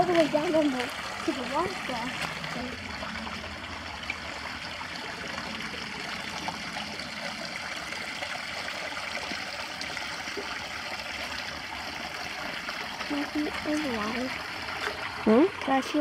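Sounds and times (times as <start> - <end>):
creek trickling over rocks: 0.0 - 16.0.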